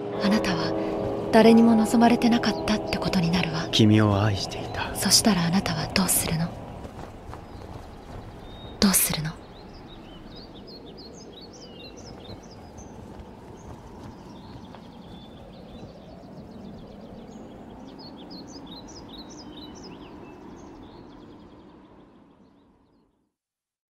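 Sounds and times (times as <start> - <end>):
low background rush: 0.0 - 22.4
birds chirping: 0.0 - 23.1.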